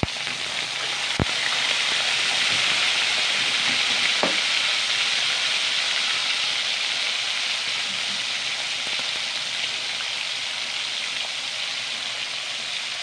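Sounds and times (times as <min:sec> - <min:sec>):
meat sizzling in hot oil: 0:00.0 - 0:13.0.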